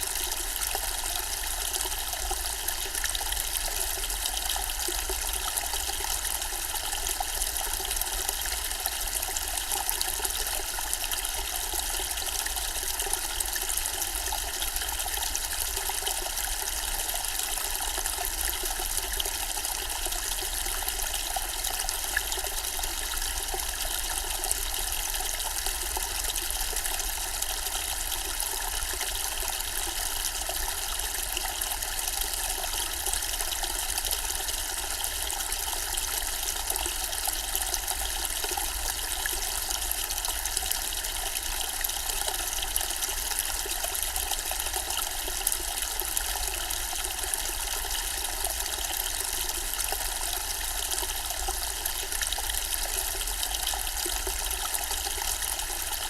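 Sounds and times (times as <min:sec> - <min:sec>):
fountain water trickling and splashing: 0:00.0 - 0:56.0.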